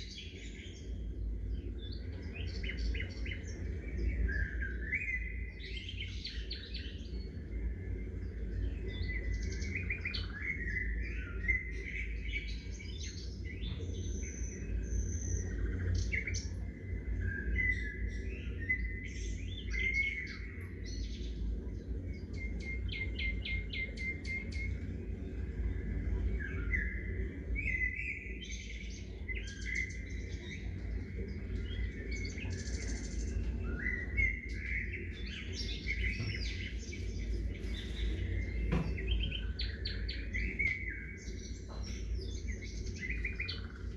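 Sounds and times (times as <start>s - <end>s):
low outdoor rumble: 0.0s - 43.9s
songbirds chirping and trilling: 0.0s - 43.9s.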